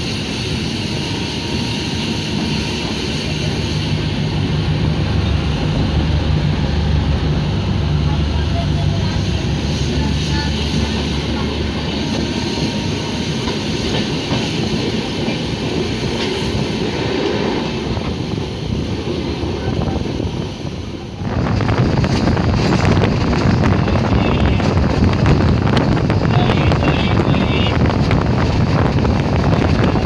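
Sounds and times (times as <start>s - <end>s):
train wheels on rails: 0.0s - 30.0s
wind buffeting microphone: 0.0s - 30.0s.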